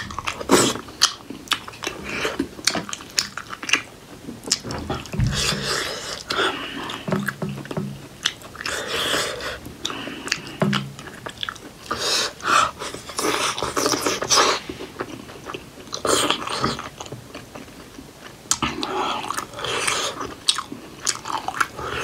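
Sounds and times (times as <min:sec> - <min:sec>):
chewing and biting dumplings: 0:00.0 - 0:22.0.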